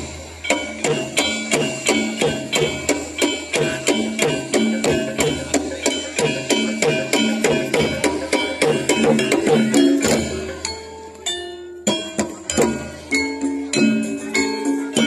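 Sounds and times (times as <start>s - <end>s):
gamelan metal percussion: 0.0s - 15.0s.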